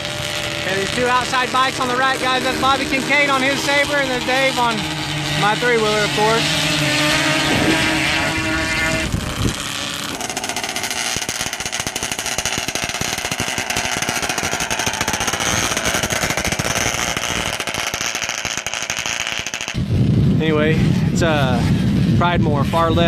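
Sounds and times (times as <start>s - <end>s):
atv engine at full throttle: 0.0s - 23.0s.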